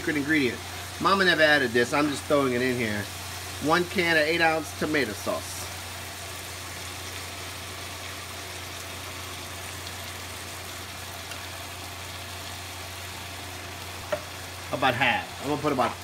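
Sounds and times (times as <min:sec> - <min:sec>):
meat sizzling in a pot: 0:00.0 - 0:16.0.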